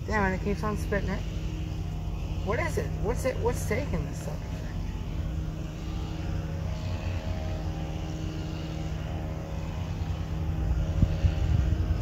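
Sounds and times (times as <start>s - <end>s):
distant engine droning: 0.0s - 12.0s
wind rumble on microphone: 0.0s - 12.0s.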